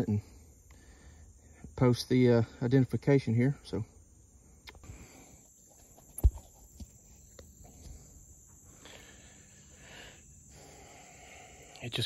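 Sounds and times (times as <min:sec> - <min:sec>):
crickets buzzing: 0:00.0 - 0:12.0.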